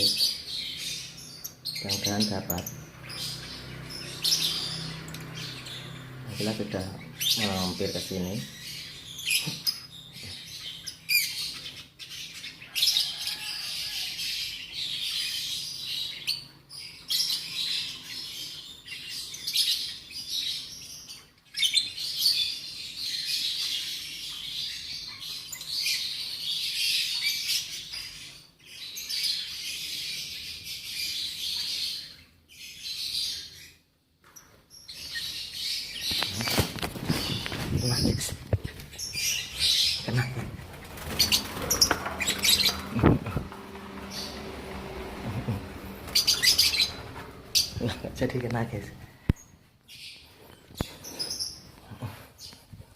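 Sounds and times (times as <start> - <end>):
lovebirds chirping shrilly: 0.0 - 33.8, 34.8 - 51.8.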